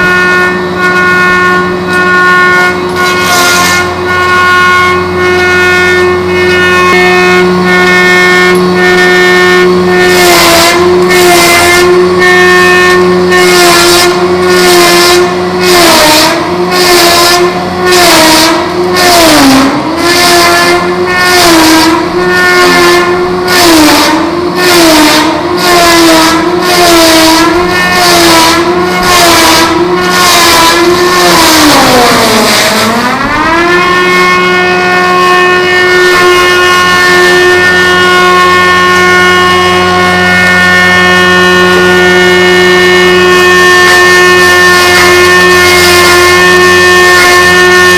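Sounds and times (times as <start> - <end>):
machine motor whine: 0.0 - 47.9.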